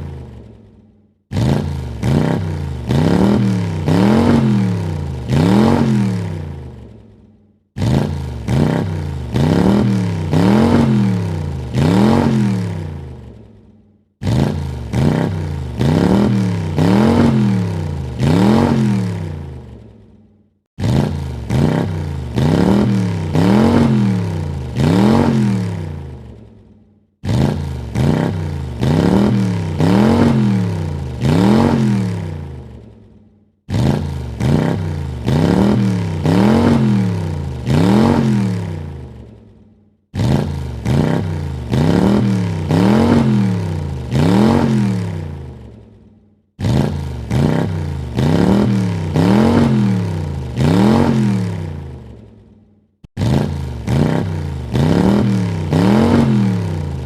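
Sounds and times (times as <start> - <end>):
car engine revving in blips: 1.3 - 6.9, 7.8 - 13.4, 14.2 - 19.9, 20.8 - 26.4, 27.2 - 32.8, 33.7 - 39.2, 40.1 - 45.8, 46.6 - 52.2, 53.0 - 57.0.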